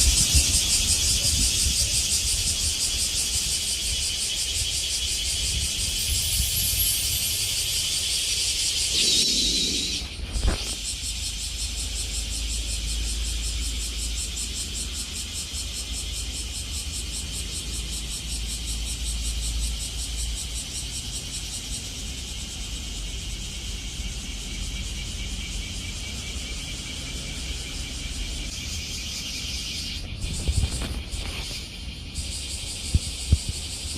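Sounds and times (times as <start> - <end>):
insects trilling: 0.0 - 33.9.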